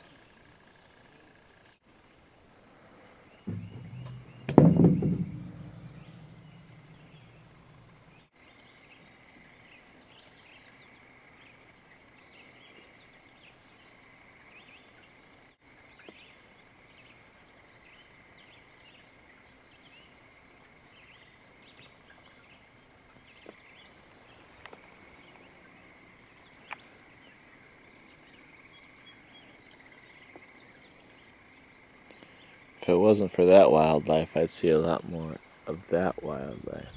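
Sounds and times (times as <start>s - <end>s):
small birds chirping: 3.0s - 36.9s.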